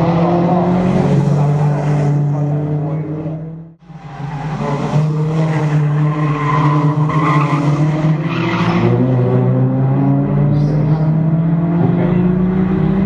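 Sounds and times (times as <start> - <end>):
race car engines at steady revs: 0.0 - 13.0.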